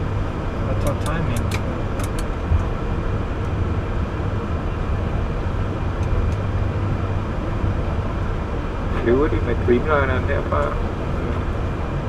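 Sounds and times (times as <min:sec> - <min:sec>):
aircraft cockpit hum: 0:00.0 - 0:12.0.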